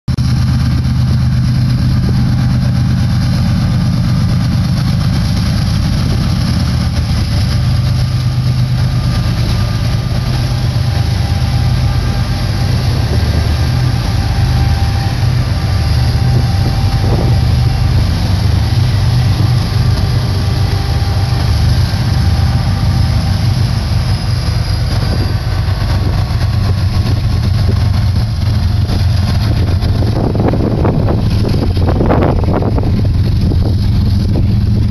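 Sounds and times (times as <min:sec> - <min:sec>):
locomotive engines droning: 0:00.1 - 0:34.9.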